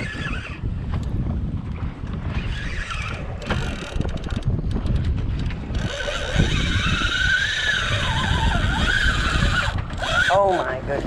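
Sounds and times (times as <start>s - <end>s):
fishing reel whine: 0.0s - 0.7s, 2.2s - 11.0s
wind buffeting microphone: 0.0s - 11.0s.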